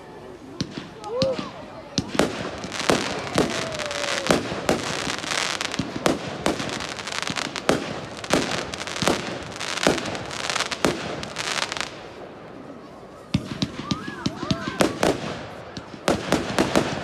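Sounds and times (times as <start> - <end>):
firework crackling: 0.1 - 17.0.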